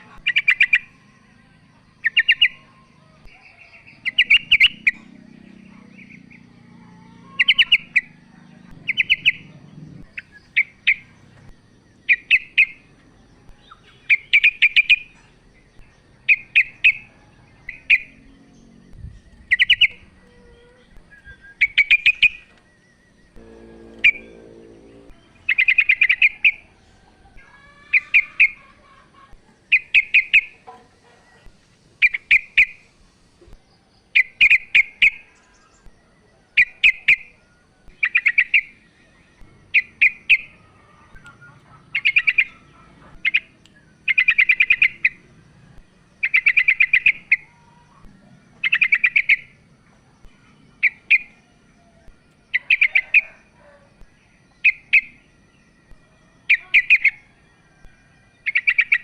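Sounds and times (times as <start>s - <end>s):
bird chirping: 0.0s - 1.1s, 1.7s - 32.9s, 33.5s - 55.9s, 56.5s - 59.0s.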